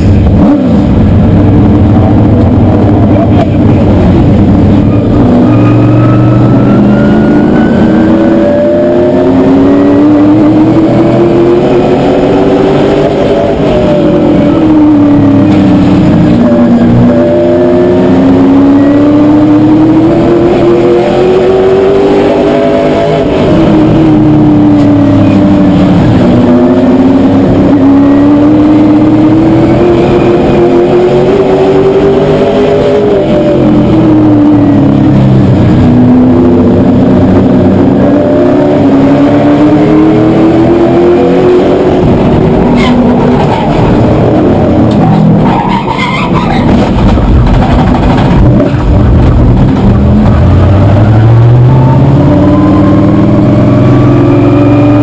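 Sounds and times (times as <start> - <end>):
racing engine at full throttle: 0.0 - 55.0.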